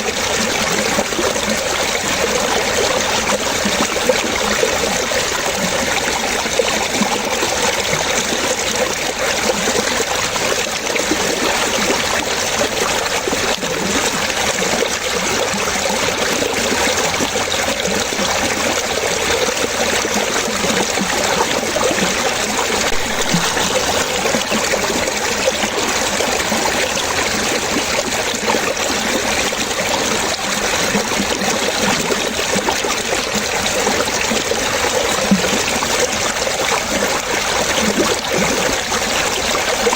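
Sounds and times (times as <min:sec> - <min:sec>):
running water splashing and trickling: 0:00.0 - 0:39.9.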